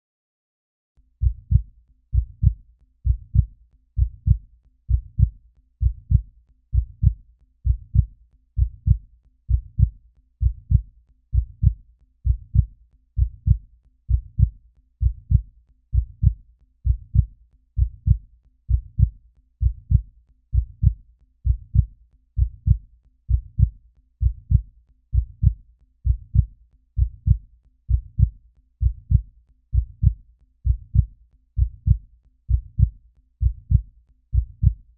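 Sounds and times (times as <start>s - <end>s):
heartbeat thumps: 1.2s - 34.9s.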